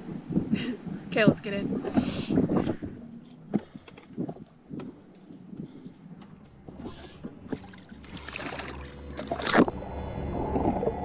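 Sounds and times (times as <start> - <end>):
water sloshing: 0.9 - 9.8.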